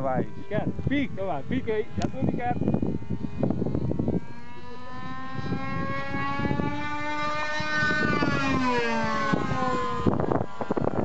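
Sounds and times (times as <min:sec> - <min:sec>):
model airplane engines whining: 0:00.0 - 0:11.0.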